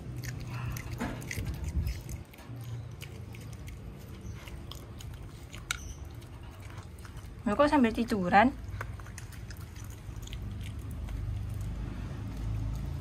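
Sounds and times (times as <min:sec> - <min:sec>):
dog chewing and crunching: 0:00.0 - 0:13.0.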